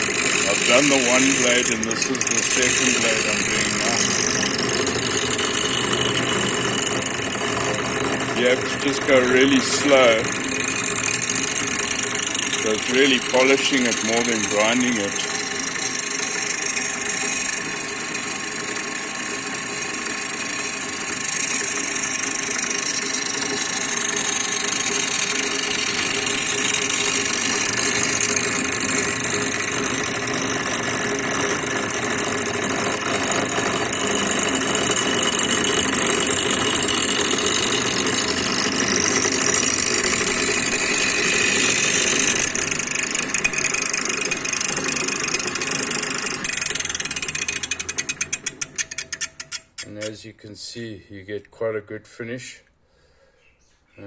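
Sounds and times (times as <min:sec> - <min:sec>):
grinding wheel hissing on steel: 0:00.0 - 0:50.0
motor running: 0:00.0 - 0:50.0.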